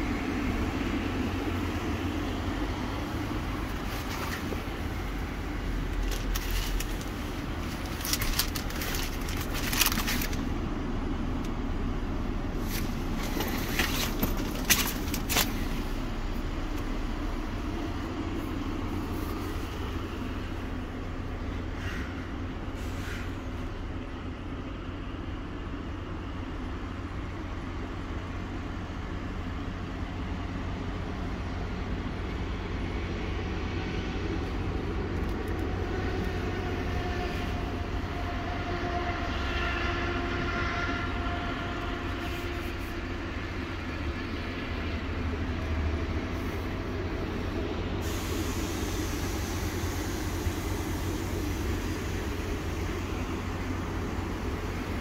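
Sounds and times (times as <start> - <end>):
diesel engine low rumble: 0.0 - 55.0.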